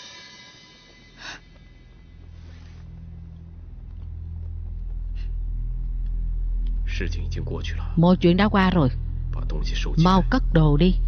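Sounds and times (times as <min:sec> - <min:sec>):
low rumbling drone: 0:00.8 - 0:11.0.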